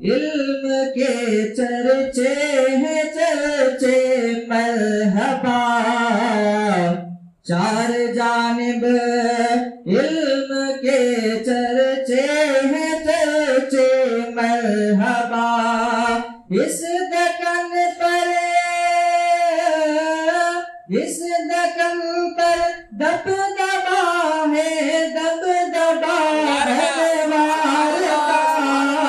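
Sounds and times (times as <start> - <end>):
man singing devotional song: 0.0 - 29.0.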